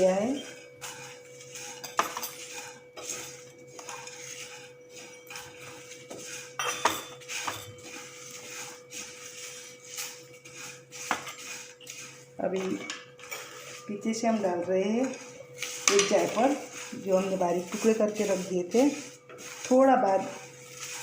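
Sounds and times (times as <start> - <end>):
spoon scraping spices in pan: 0.0 - 21.0.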